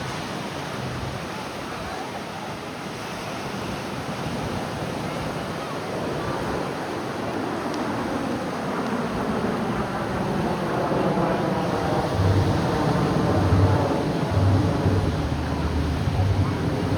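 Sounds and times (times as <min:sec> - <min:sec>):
ocean surf breaking: 0:00.0 - 0:16.9
wind on microphone: 0:00.0 - 0:16.9.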